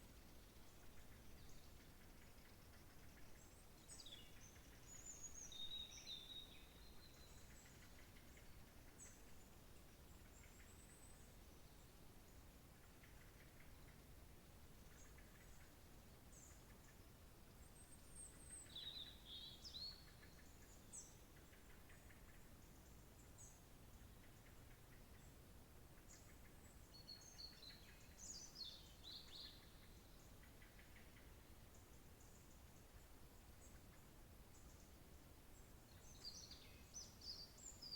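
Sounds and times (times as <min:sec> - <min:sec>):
low background hiss: 0:00.0 - 0:37.9
small songbirds singing: 0:00.0 - 0:37.9.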